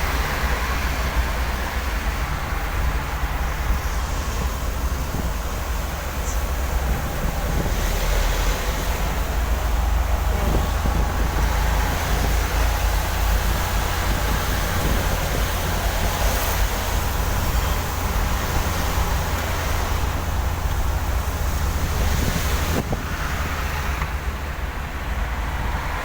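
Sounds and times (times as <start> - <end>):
hiss of wet road and rain: 0.0 - 26.0
vehicle low rumble: 0.0 - 26.0.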